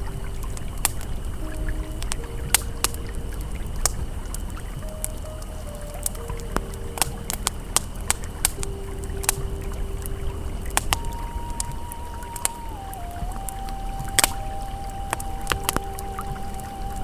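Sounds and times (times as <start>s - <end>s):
campfire crackling with pops: 0.0s - 17.0s
river water flowing: 0.0s - 17.0s
soft held ambient tone: 0.0s - 17.0s.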